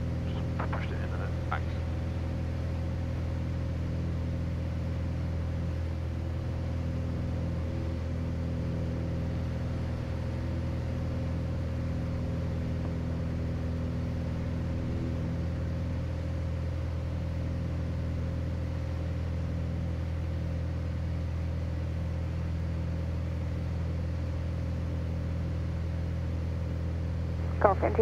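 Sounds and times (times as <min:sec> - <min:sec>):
aircraft engine and propeller droning: 0:00.0 - 0:28.0.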